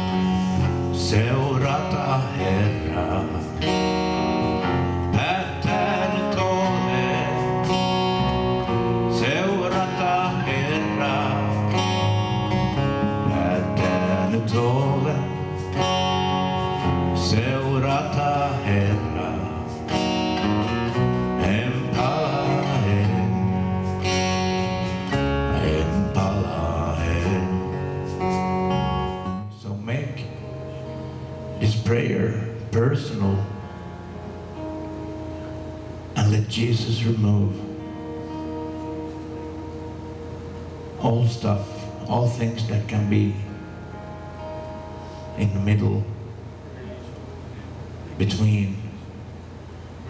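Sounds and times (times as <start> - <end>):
acoustic-electric guitar: 0.0 - 50.0
bass guitar: 0.0 - 50.0.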